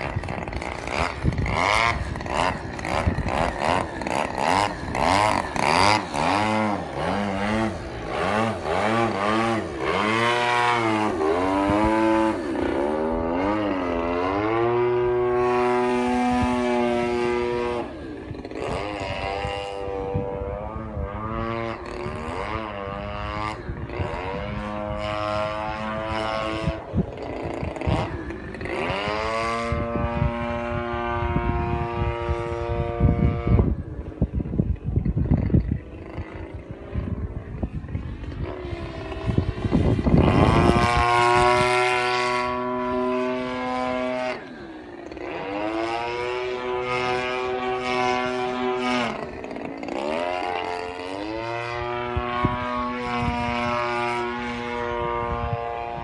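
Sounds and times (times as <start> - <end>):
model airplane engine and propeller: 0.0 - 56.0.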